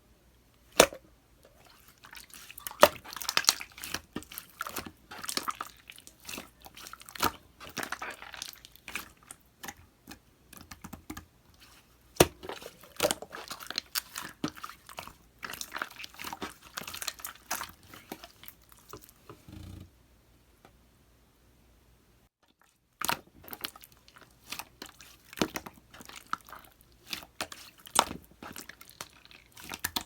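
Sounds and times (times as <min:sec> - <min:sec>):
slime squelching: 0:00.7 - 0:11.0, 0:11.6 - 0:19.7, 0:23.0 - 0:30.0.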